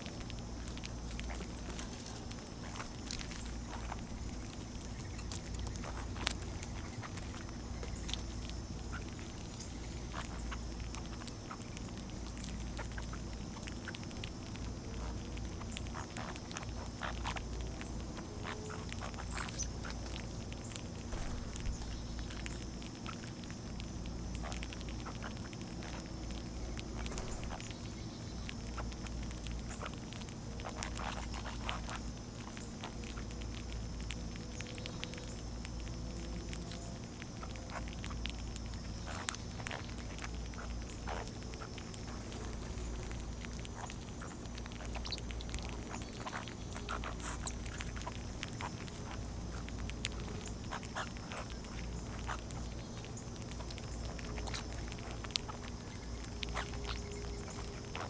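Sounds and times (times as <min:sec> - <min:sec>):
small birds chipping: 0:00.0 - 0:58.0
steady low hum: 0:00.0 - 0:58.0.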